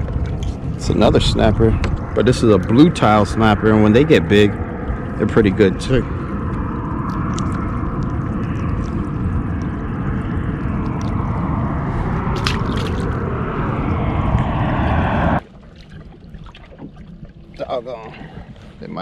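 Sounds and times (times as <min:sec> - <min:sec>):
water rushing and sloshing: 0:00.0 - 0:19.0.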